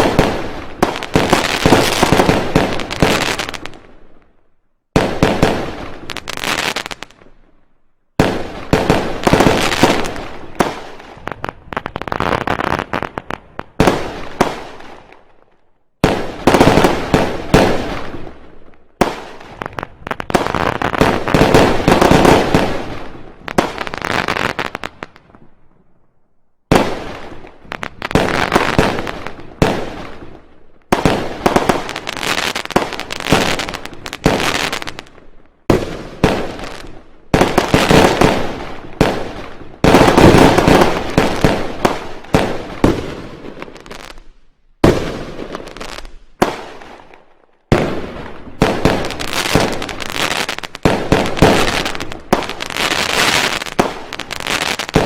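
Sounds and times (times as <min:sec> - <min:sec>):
fireworks banging and crackling: 0:00.0 - 0:04.3, 0:04.9 - 0:07.5, 0:08.2 - 0:25.6, 0:26.7 - 0:55.0.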